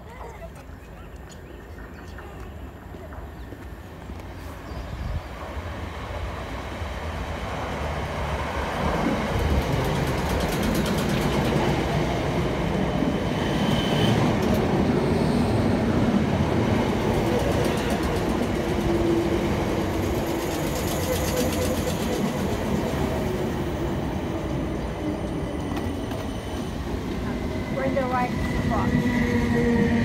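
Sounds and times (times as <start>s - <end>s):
electric train passing: 1.7s - 30.0s.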